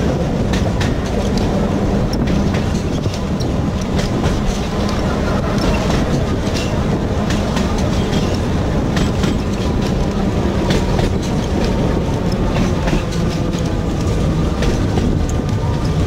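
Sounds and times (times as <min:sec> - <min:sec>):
rattling tram car: 0:00.0 - 0:16.0
tram low rumble: 0:00.0 - 0:16.0
wheels clicking and clacking: 0:00.0 - 0:16.0.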